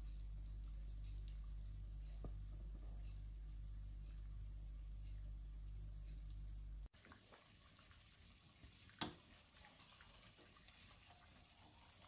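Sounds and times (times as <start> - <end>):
low steady hum: 0.0 - 12.0
syrup simmering and bubbling: 0.0 - 12.0.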